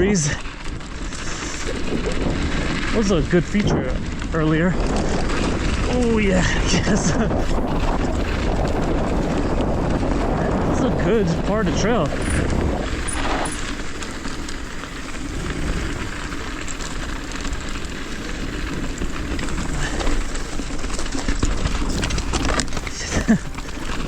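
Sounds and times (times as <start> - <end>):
bike tyres crunching over gravel: 0.0 - 24.0
wind rumble on microphone: 0.0 - 24.0.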